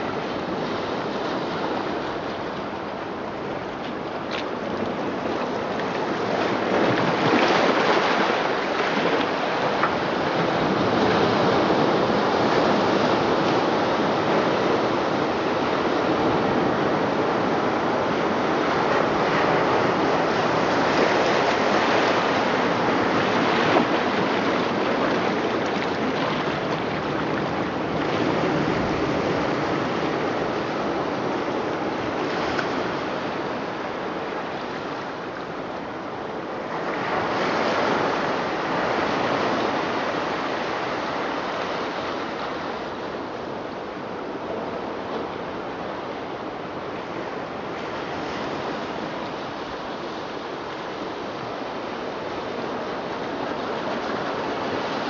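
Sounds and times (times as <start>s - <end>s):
ocean waves washing in: 0.0s - 55.0s.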